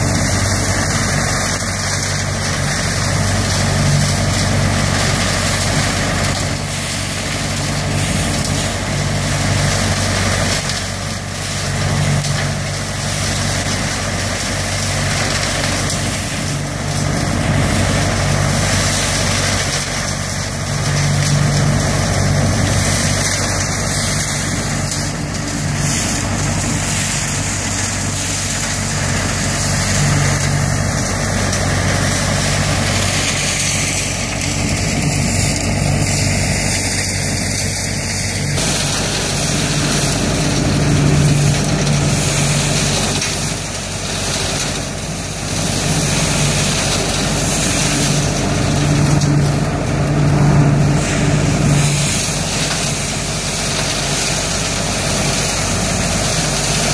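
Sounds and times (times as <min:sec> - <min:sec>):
leaf vacuum engine hum: 0:00.0 - 0:56.9
rush of air and leaves: 0:00.0 - 0:56.9.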